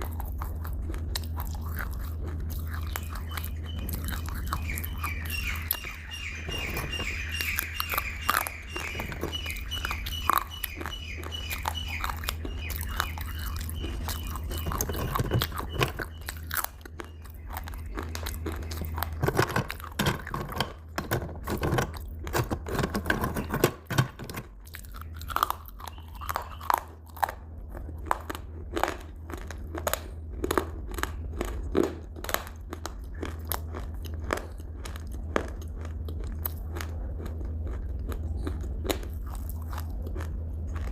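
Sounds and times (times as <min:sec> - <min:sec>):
chewing and crunching crisp food: 0:00.0 - 0:40.9
steady low hum: 0:00.0 - 0:40.9.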